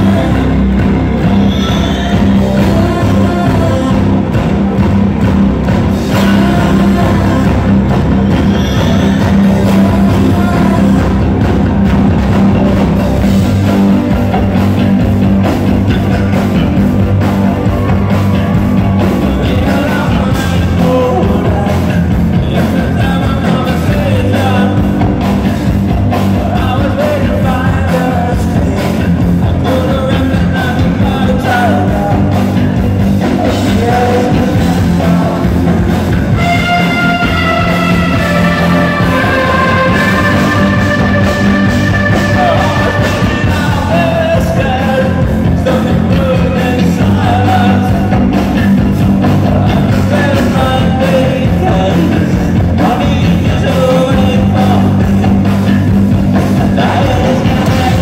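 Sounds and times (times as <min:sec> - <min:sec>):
man singing: 0:00.0 - 0:04.8, 0:05.9 - 0:11.6, 0:18.8 - 0:55.7, 0:56.4 - 0:58.0
live rock band: 0:00.0 - 0:58.0.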